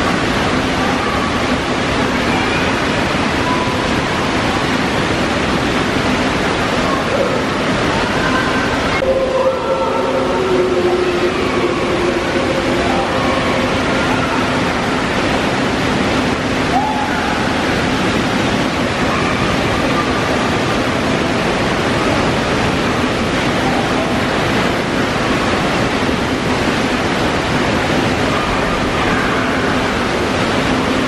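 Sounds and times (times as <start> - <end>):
waves breaking and churning: 0.0 - 31.0.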